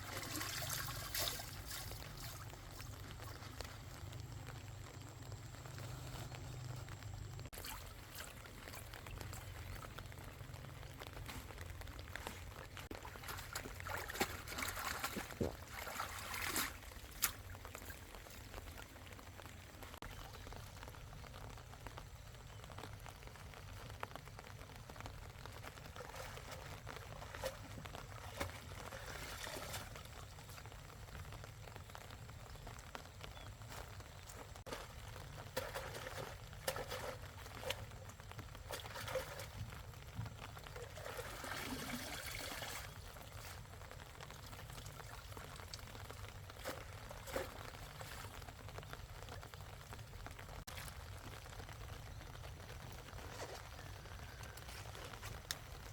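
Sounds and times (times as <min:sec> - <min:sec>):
water trickling and pouring: 0:00.0 - 0:55.9.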